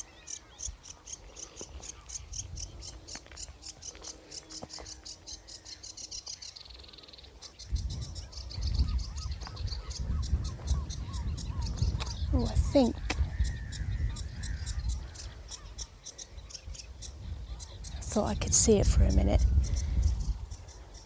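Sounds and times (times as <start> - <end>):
wind rumbling on microphone: 0.0 - 4.0, 7.6 - 21.0
warbler singing: 0.0 - 21.0.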